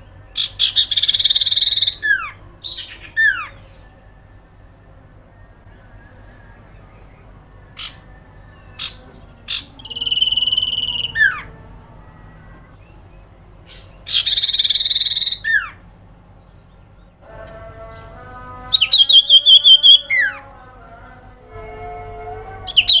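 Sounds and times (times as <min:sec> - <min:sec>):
bird calling: 0:00.0 - 0:03.9, 0:05.4 - 0:17.2, 0:18.0 - 0:20.8, 0:21.4 - 0:23.0.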